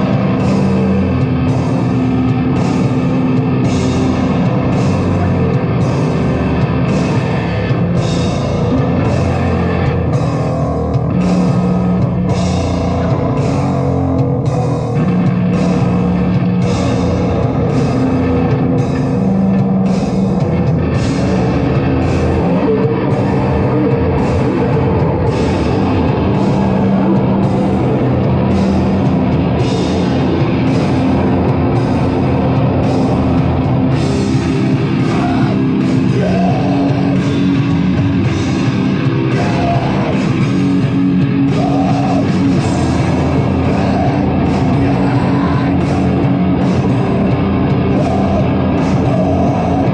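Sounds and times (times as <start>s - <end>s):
distorted electric guitars: 0.0s - 49.9s
drum kit: 0.0s - 49.9s.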